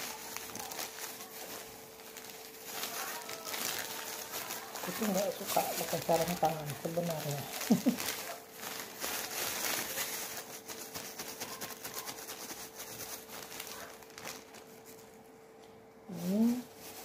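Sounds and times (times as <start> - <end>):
plastic glove crinkling: 0.0 - 17.0.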